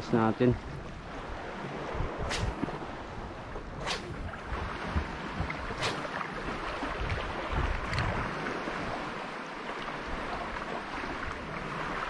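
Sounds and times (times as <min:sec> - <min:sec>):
surf washing on rocks: 0:00.0 - 0:12.0
wind buffeting microphone: 0:00.0 - 0:12.0.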